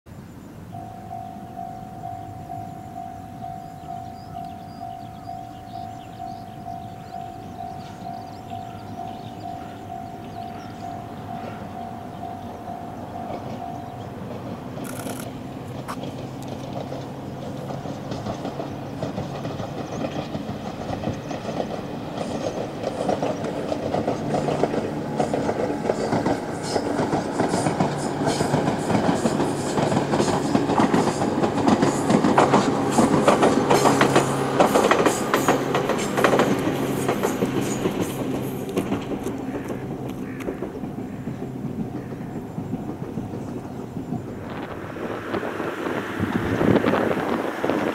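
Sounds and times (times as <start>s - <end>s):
distant electric train passing: 0.1s - 47.9s
wheel clatter over rail joints: 3.4s - 47.9s.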